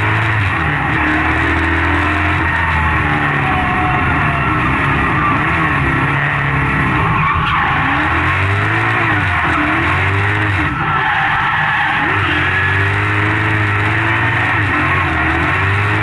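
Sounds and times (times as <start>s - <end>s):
car engine revving: 0.0s - 16.0s
tyres skidding and squealing: 0.0s - 16.0s.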